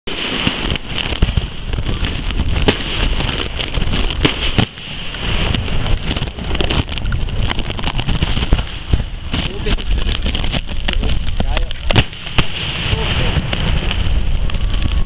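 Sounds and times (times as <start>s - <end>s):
fireworks bangs: 0.1s - 15.0s
wind buffeting microphone: 0.8s - 15.0s.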